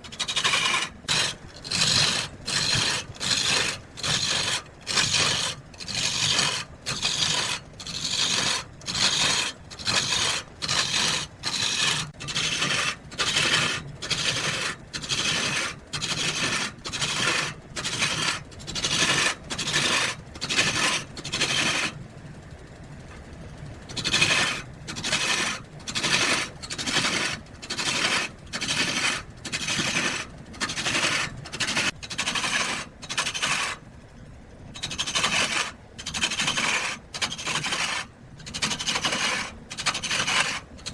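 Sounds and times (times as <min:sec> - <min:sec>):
hand tool scraping wood: 0:00.0 - 0:22.0, 0:23.9 - 0:33.8, 0:34.8 - 0:40.9.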